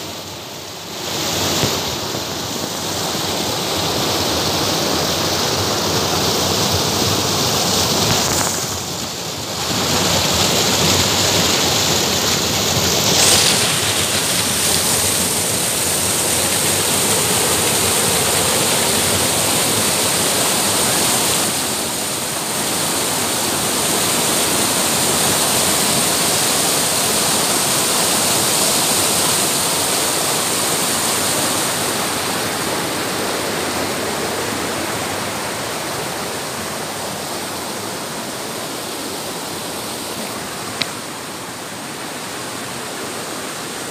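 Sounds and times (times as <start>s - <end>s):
stream rushing over boulders: 0.0s - 43.9s.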